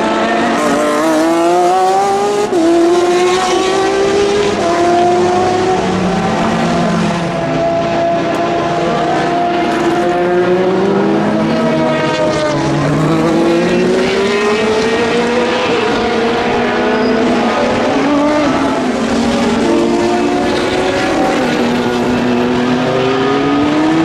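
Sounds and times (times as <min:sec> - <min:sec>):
race car engines: 0:00.0 - 0:24.0.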